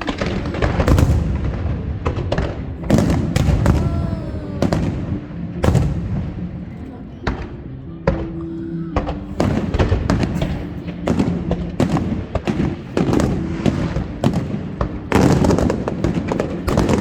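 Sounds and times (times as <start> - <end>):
fireworks crackle: 0.0 - 7.6, 9.1 - 17.0
fireworks bangs and booms: 0.0 - 8.3, 9.1 - 17.0.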